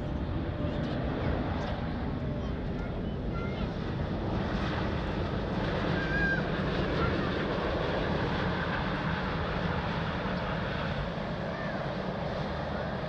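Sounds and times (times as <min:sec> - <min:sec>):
jet aircraft taking off: 0:00.0 - 0:13.0.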